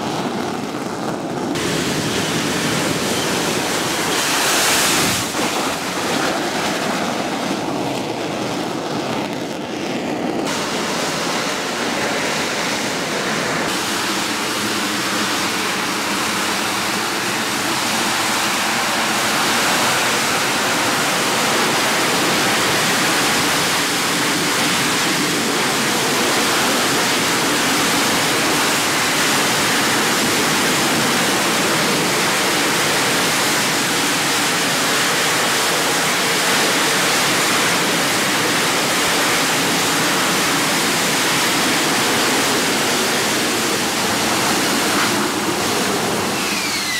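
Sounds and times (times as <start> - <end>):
faint engine whine: 0.0 - 46.9
loud jet engine noise: 0.0 - 46.9.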